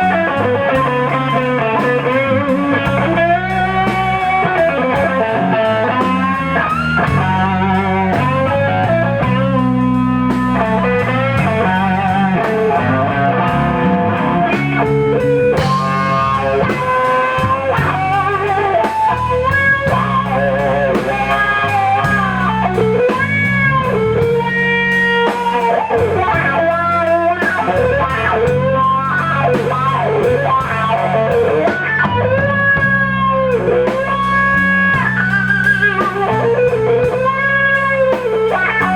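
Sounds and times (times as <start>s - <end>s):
bass line: 0.0s - 38.9s
drums: 0.0s - 38.9s
electric blues guitar solo: 0.0s - 38.9s.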